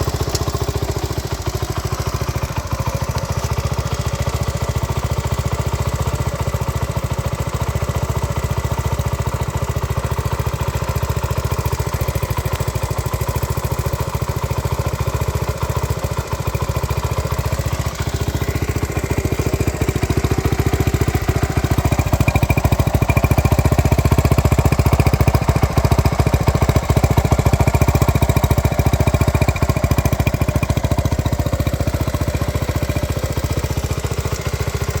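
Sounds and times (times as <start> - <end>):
small motorcycle engine puttering: 0.0 - 35.0.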